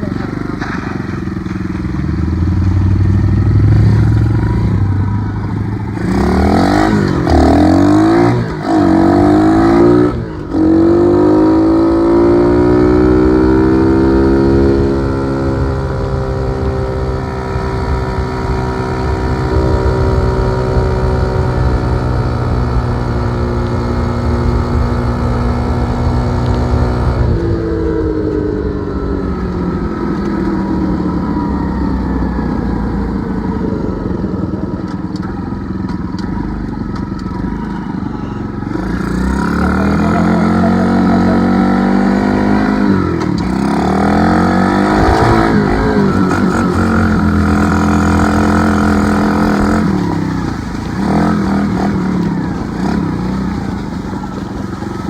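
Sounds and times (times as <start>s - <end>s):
dirt bike engine revving: 0.0s - 29.0s, 38.4s - 55.0s.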